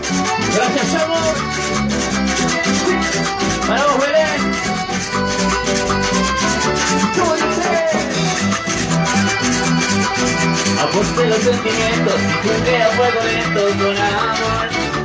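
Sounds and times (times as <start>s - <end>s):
live band dance music: 0.0s - 15.0s.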